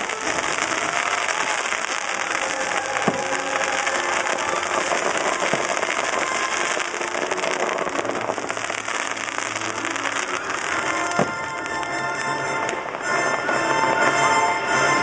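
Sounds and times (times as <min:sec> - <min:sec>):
sharp firework bangs: 0:00.0 - 0:13.2
fireworks barrage: 0:00.0 - 0:15.0.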